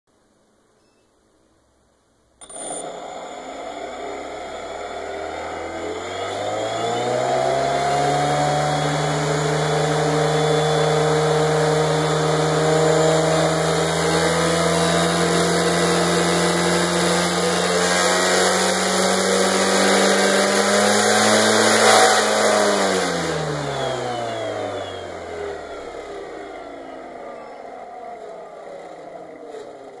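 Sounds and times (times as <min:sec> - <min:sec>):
motor-driven propeller whirring: 0:02.4 - 0:30.0.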